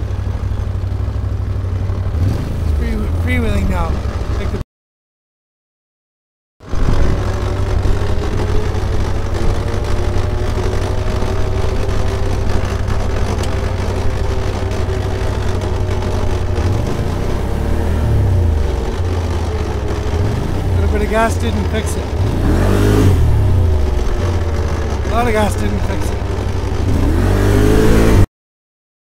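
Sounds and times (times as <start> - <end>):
drivetrain whine: 0.0 - 4.6, 6.6 - 28.3
engine revving: 0.0 - 4.6, 6.6 - 28.3
quad engine running: 0.0 - 4.6, 6.6 - 28.3.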